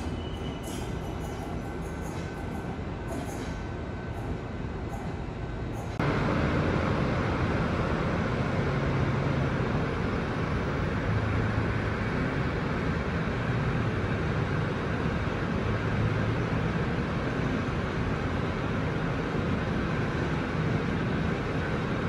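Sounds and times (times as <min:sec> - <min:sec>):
train running slowly: 0:00.0 - 0:22.0.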